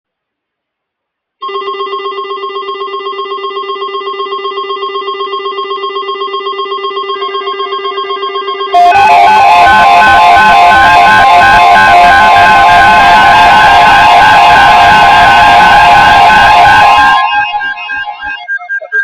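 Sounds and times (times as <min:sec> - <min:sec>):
harsh noisy signal with warbling beeps: 0:01.4 - 0:19.0
pulsing electronic buzzer tone: 0:01.4 - 0:19.0.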